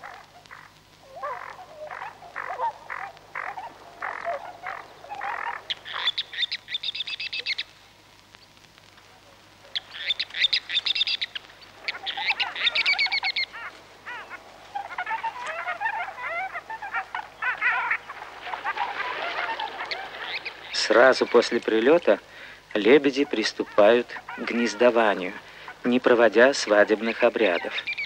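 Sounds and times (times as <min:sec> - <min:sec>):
wild birds calling and trilling: 0:00.0 - 0:28.0.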